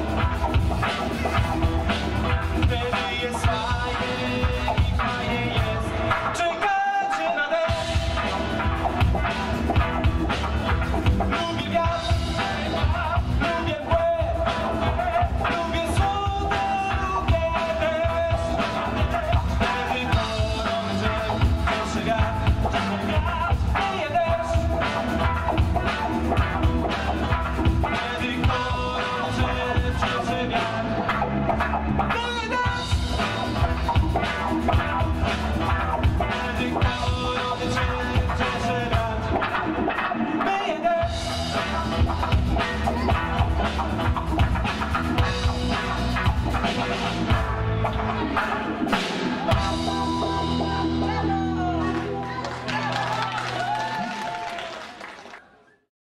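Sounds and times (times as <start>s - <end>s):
electric guitar lead line: 0.0s - 53.9s
bass guitar: 0.0s - 54.5s
live rock band playing: 0.0s - 54.6s
drums: 0.0s - 55.4s.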